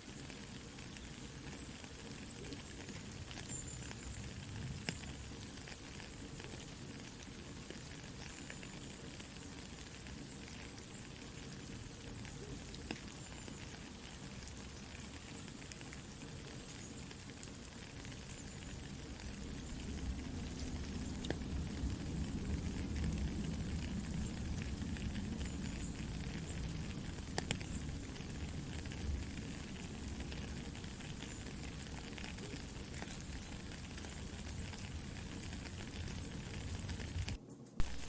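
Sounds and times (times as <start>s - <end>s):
campfire crackling: 0.0s - 38.0s
soft rain falling: 0.0s - 38.0s.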